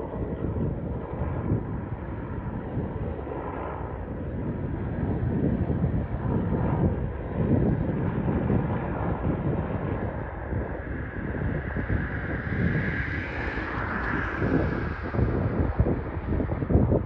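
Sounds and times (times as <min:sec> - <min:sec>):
distant helicopter flying over: 0:00.0 - 0:17.0
wind rumbling on microphone: 0:00.0 - 0:17.0.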